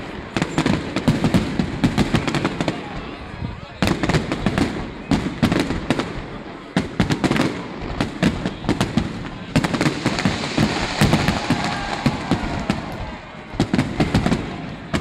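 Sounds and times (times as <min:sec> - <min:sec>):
firework bangs: 0:00.0 - 0:15.0
firework crackling: 0:00.0 - 0:15.0.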